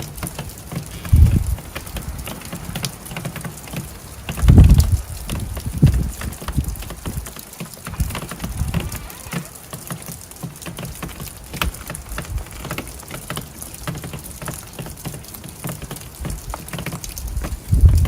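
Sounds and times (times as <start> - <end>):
wind rumble on microphone: 0.0 - 9.5, 10.7 - 15.1, 15.8 - 18.0
rain pattering: 0.0 - 18.0.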